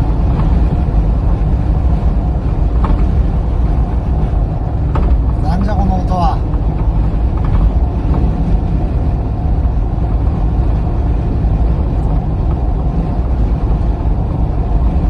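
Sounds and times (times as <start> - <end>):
car road and tyre rumble: 0.0 - 15.0.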